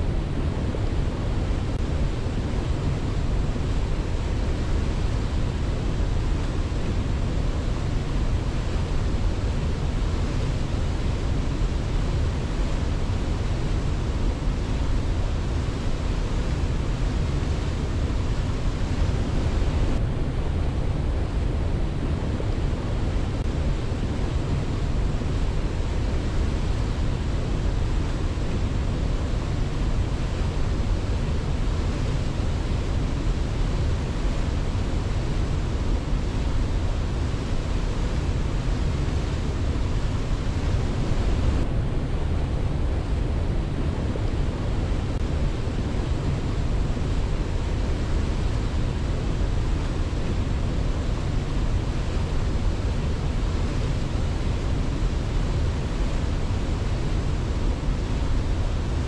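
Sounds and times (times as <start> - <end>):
waterfall roar: 0.0 - 20.2, 22.3 - 59.0.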